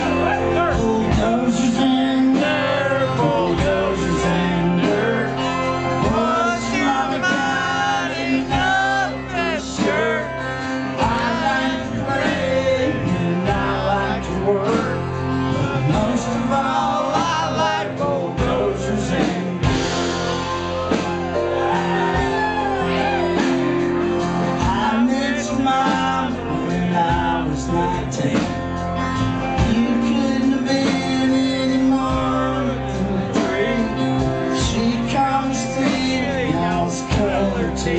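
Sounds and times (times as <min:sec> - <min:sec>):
live band playing country-rock: 0:00.0 - 0:37.9
person singing: 0:00.0 - 0:37.9.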